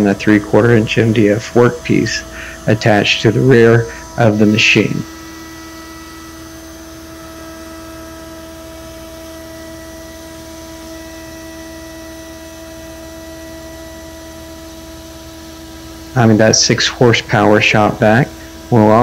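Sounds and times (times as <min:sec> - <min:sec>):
router humming while carving: 0:00.0 - 0:19.0.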